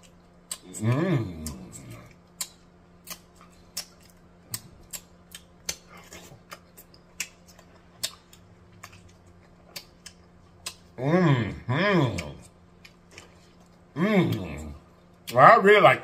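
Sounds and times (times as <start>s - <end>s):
close chewing with mouth clicks: 0.0s - 11.0s, 12.0s - 15.4s
faint steady hum: 0.0s - 16.0s.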